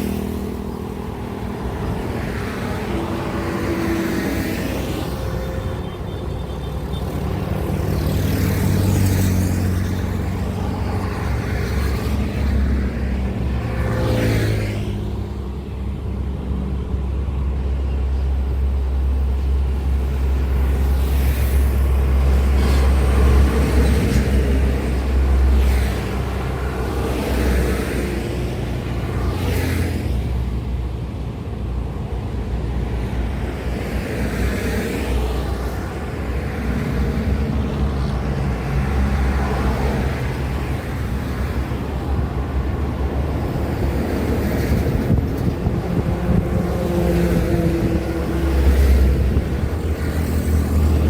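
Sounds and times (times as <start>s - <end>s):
road noise of passing vehicles: 0.0s - 51.0s
truck engines droning: 0.0s - 51.0s.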